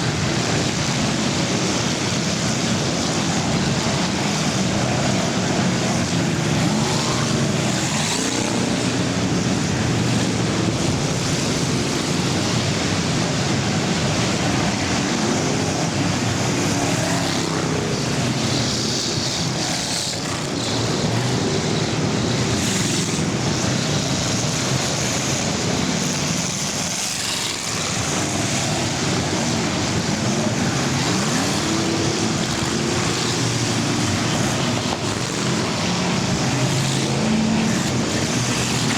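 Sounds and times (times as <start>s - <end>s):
racing car engines: 0.0s - 38.9s.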